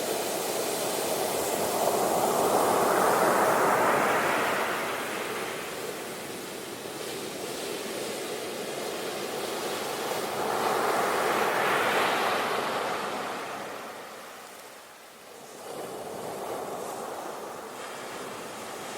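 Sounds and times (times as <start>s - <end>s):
sea waves breaking on shore: 0.2s - 18.9s.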